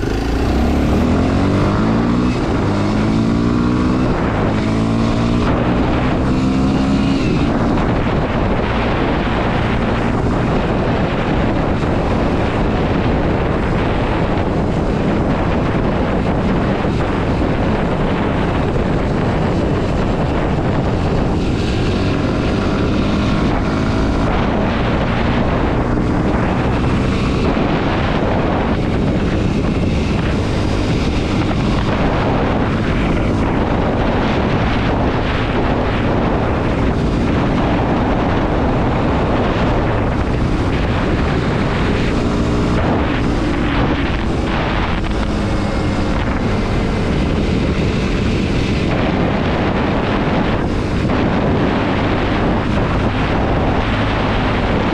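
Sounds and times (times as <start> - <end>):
motorcycle engine shifting gears: 0.0 - 54.9
wind rushing over microphone: 0.0 - 54.9.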